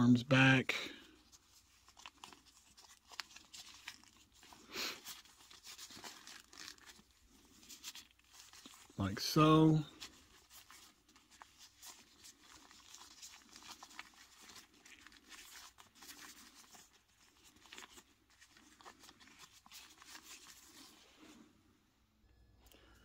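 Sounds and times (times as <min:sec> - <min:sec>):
faint cloth rustling: 0:00.9 - 0:22.3.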